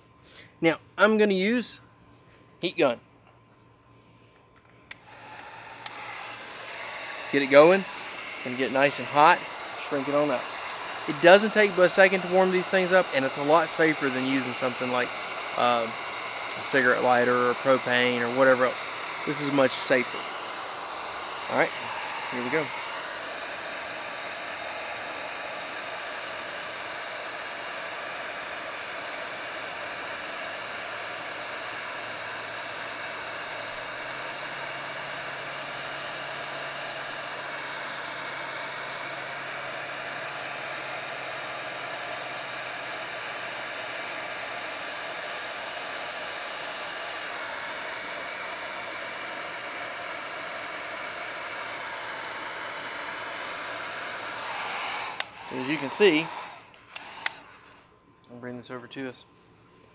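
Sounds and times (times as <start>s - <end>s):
heat gun fan blowing: 0.0s - 59.9s.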